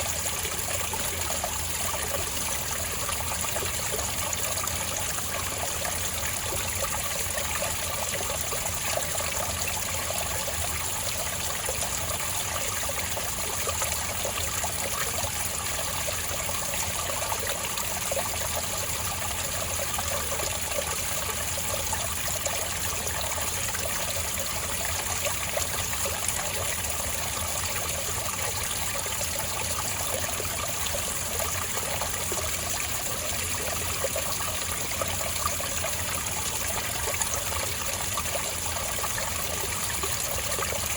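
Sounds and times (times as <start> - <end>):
spring water trickling: 0.0 - 40.9.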